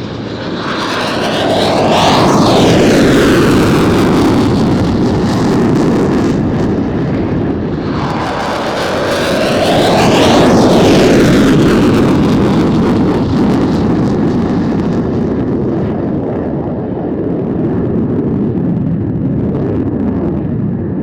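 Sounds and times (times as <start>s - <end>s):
turboprop aircraft low pass: 0.0s - 21.0s.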